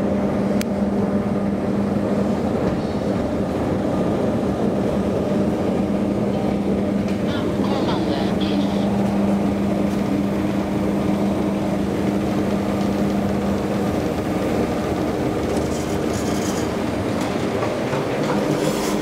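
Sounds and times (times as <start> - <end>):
elevator rumble: 0.0 - 19.0.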